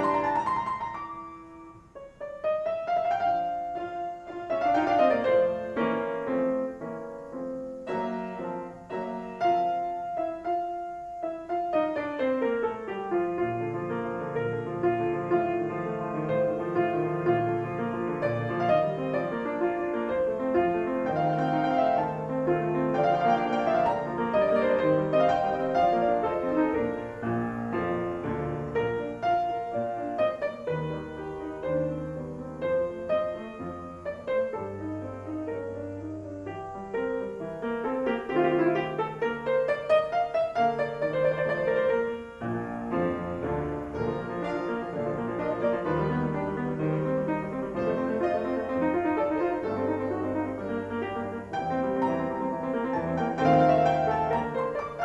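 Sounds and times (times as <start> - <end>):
grand piano playing: 0.0 - 55.0
second piano playing: 0.0 - 55.0.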